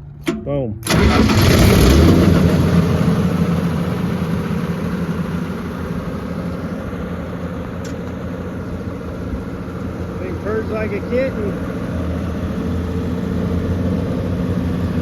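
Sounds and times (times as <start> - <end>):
diesel generator engine running: 0.0 - 15.0.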